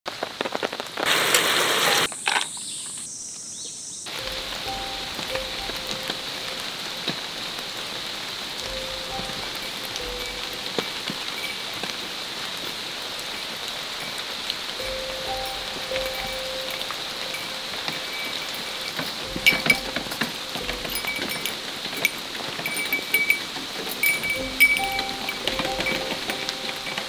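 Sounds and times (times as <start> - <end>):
rain on a tarp: 0.1 - 2.5, 4.1 - 27.0
soft sustained music notes: 4.1 - 23.1, 24.0 - 27.0.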